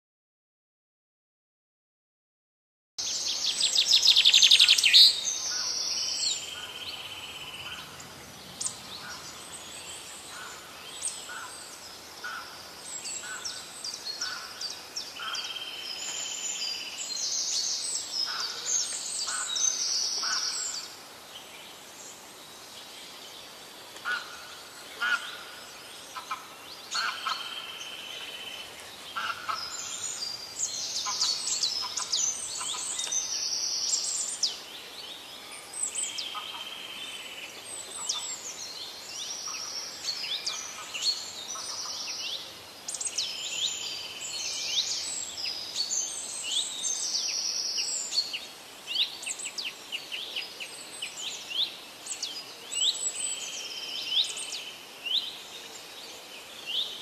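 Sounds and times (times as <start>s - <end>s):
birds chirping: 3.0s - 57.0s.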